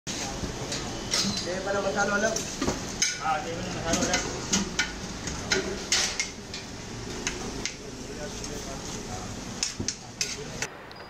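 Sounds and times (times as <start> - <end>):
metal spoon clinking on steel pots: 0.7 - 8.6, 9.6 - 10.7.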